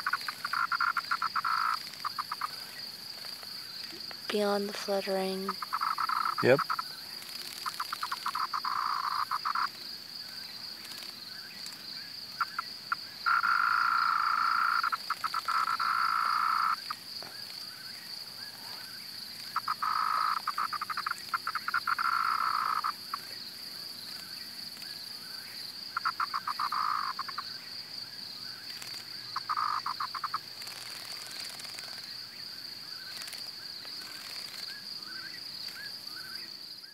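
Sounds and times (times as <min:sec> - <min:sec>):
cicada buzzing weakly: 0:00.0 - 0:36.9
high-pitched insect trill: 0:00.0 - 0:36.9.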